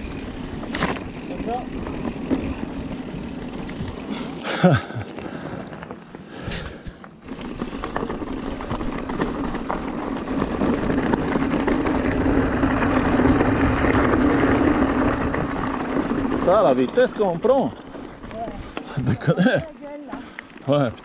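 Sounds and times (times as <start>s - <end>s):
bike tyre noise: 0.0s - 21.0s.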